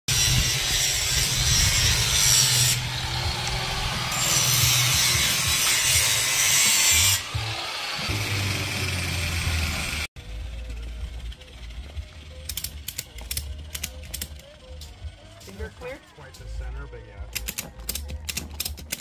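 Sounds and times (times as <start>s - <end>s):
power grinder grinding metal: 0.1s - 16.4s.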